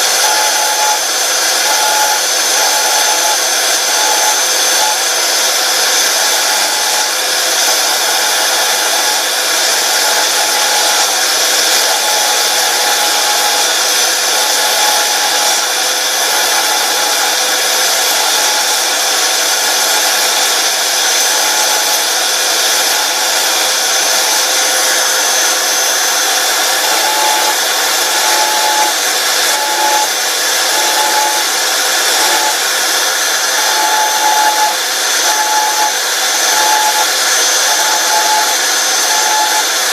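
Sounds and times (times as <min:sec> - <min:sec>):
belt sander running: 0:00.0 - 0:39.9.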